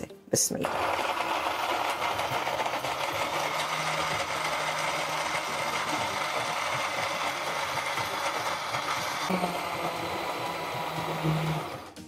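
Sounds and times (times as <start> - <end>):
blender grinding nuts: 0.6 - 12.0.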